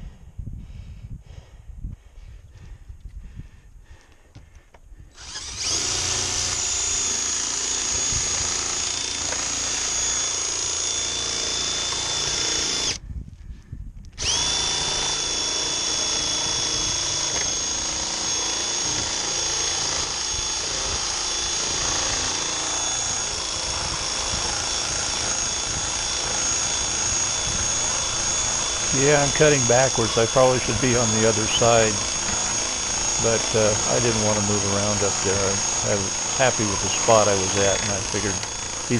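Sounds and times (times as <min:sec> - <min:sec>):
drill cutting metal whine: 0:05.2 - 0:13.0, 0:14.2 - 0:38.9.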